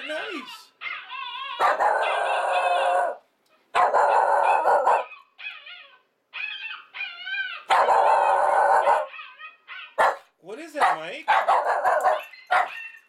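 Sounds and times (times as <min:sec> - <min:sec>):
dog yipping: 0:00.0 - 0:03.2, 0:03.8 - 0:13.0
dog barking and howling: 0:00.0 - 0:13.0.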